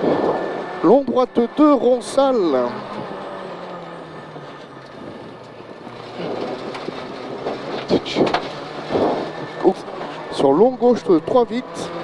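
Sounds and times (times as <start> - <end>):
car engine running hard: 0.0 - 12.0
tyre and road noise: 0.0 - 12.0.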